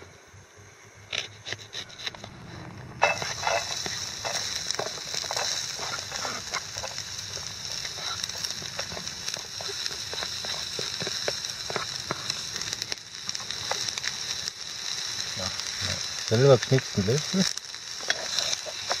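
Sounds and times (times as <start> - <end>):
onion sizzling in a pan: 0.0 - 19.0.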